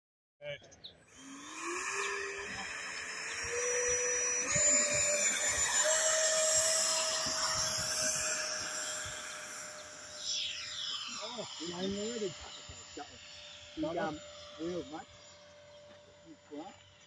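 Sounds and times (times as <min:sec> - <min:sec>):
electric ducted fan whine: 0:01.1 - 0:17.0.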